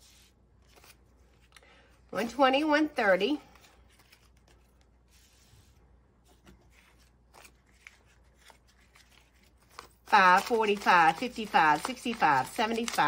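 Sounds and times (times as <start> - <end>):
banknotes rustling: 0.2 - 13.0.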